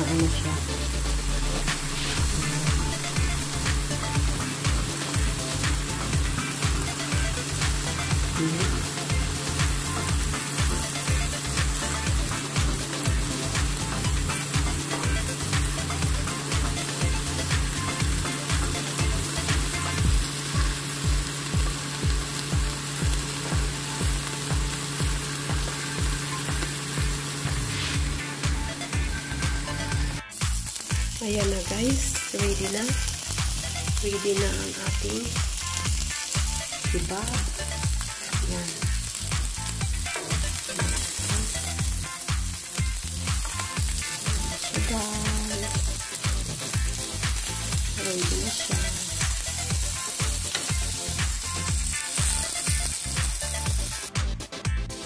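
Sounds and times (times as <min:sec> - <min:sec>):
meat sizzling in oil: 0:00.0 - 0:54.2
background music with low beat: 0:00.0 - 0:55.0.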